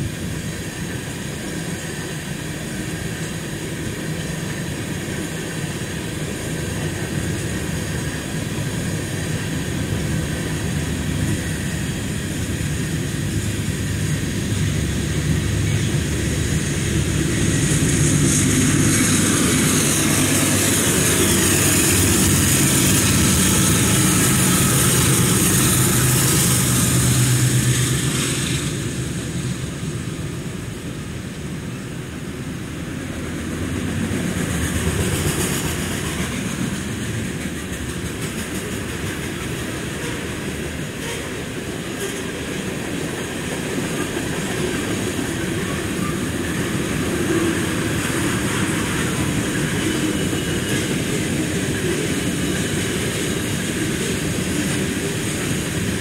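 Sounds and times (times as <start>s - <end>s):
freight train wheels rumbling: 0.0s - 56.0s
high hiss: 0.0s - 56.0s.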